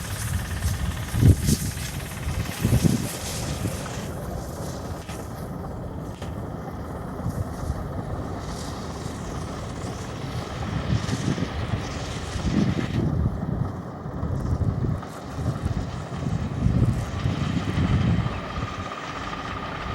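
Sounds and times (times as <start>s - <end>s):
steam locomotive rumbling: 0.0s - 19.9s.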